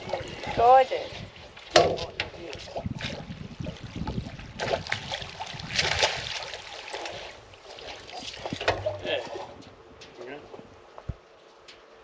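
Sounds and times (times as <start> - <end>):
water splashing around a boat: 0.0 - 12.0.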